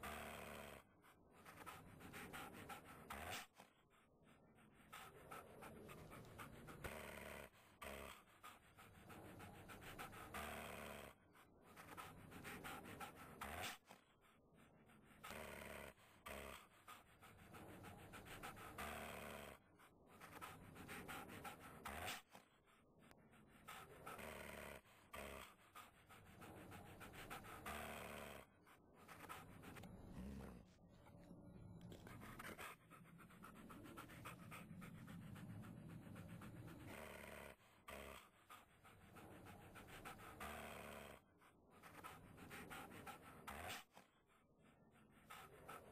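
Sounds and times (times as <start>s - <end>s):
puppy panting: 0.0s - 45.9s.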